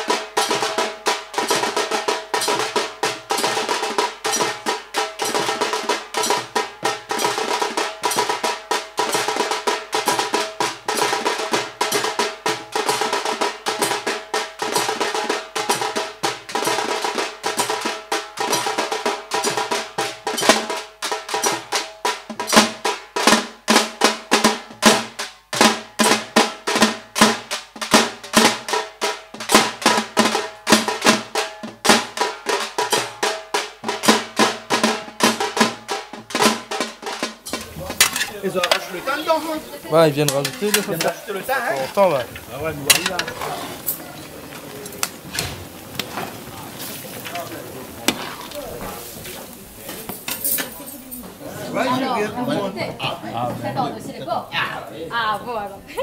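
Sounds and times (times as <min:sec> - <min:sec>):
drums played fast: 0:00.0 - 0:53.8.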